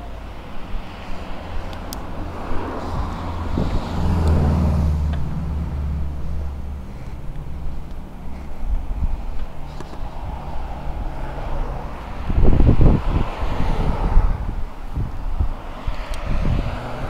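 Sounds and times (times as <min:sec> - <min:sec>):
car passing: 0:00.0 - 0:17.0
steady low rumble: 0:00.0 - 0:17.0.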